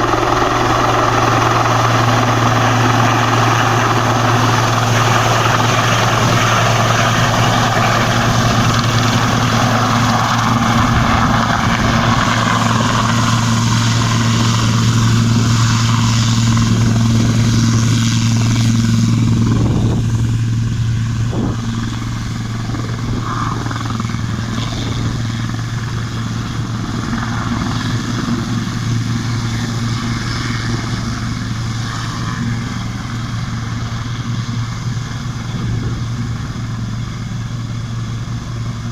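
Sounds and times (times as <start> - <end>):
broad rushing noise: 0.0 - 38.9
helicopter engine and rotor hum: 0.0 - 38.9.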